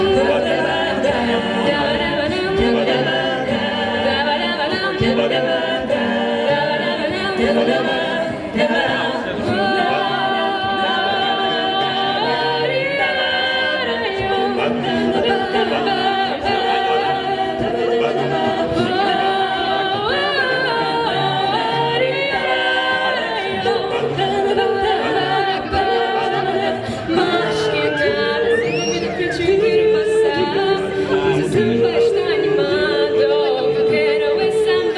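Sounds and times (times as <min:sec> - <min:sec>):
vocal group singing in harmony: 0:00.0 - 0:34.9.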